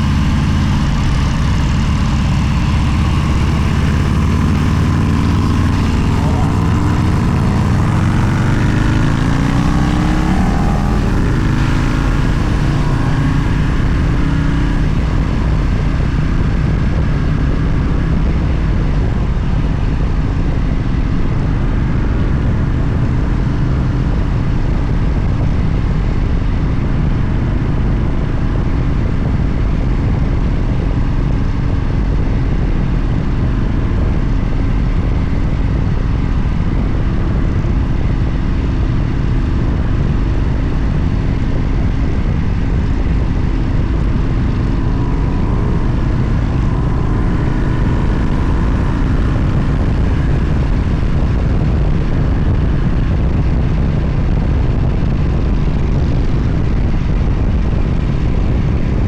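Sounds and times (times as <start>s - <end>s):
steady rushing noise: 0.0s - 23.3s, 33.4s - 59.0s
motorcycle engine accelerating: 0.0s - 59.0s.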